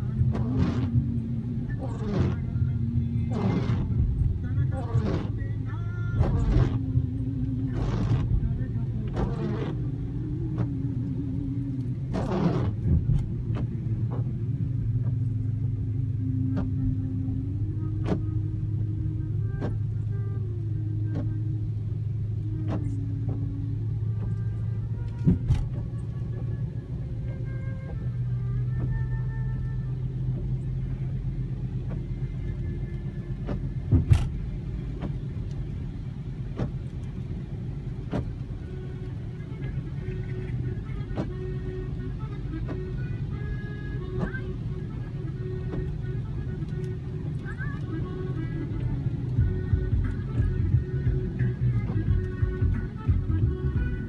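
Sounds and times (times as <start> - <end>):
car engine rumble: 0.0 - 54.0
tyres on wet road: 0.0 - 54.0.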